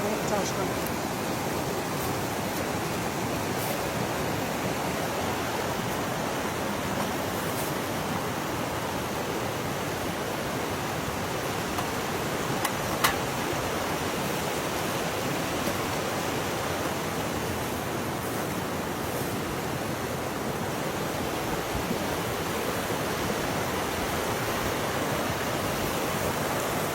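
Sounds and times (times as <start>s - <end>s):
mountain stream rushing: 0.0s - 26.9s.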